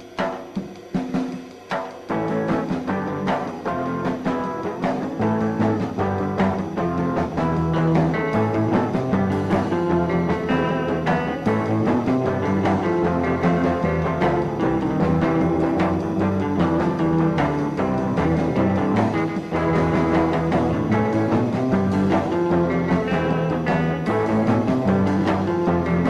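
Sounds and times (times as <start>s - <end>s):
music with drums: 0.0s - 26.0s.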